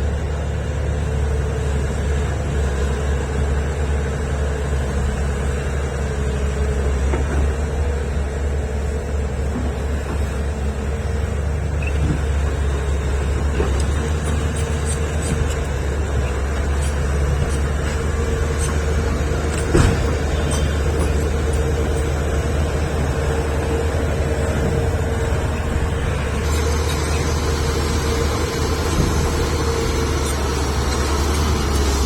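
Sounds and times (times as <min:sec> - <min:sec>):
excavator diesel engine droning: 0:00.0 - 0:32.0.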